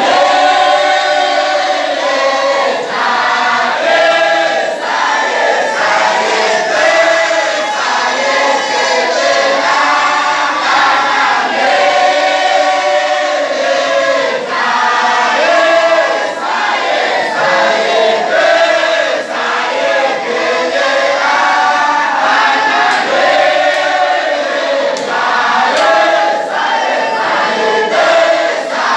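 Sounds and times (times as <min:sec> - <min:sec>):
group of men chanting: 0:00.0 - 0:28.9.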